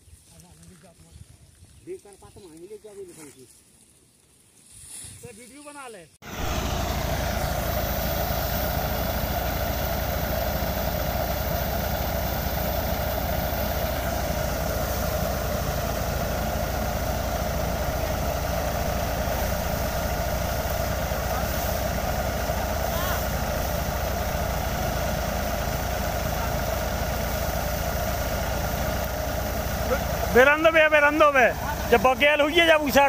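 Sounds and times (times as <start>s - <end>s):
tractor engine droning: 6.2s - 33.0s.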